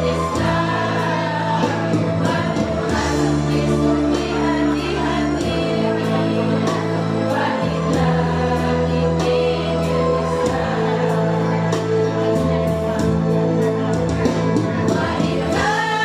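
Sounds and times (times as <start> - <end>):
backing music with steady beat: 0.0 - 16.0
choir singing: 0.0 - 16.0.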